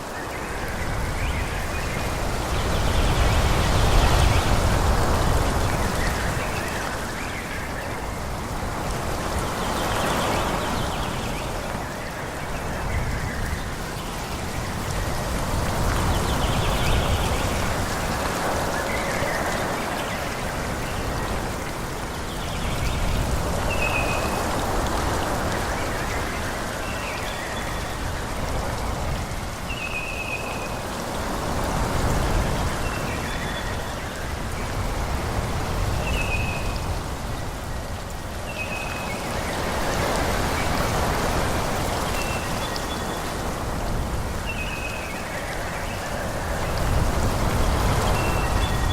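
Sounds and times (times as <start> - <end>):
wind rushing through trees: 0.0 - 48.9.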